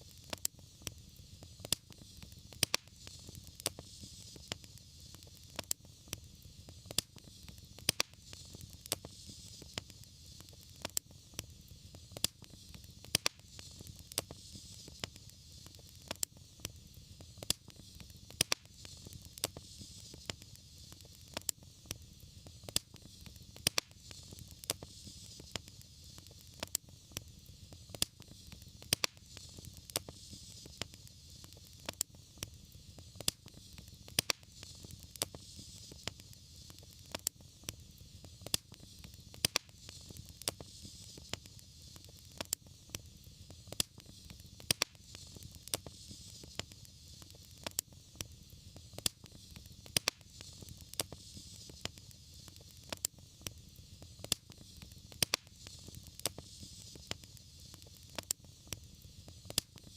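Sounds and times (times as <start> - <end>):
fire popping: 0.0 - 59.9
low rumble of fire: 0.0 - 59.9
soft hiss: 0.0 - 59.9.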